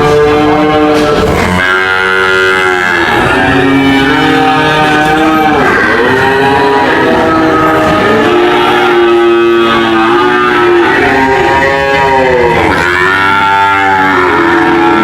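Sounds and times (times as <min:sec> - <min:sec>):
cattle mooing: 0:00.0 - 0:15.0.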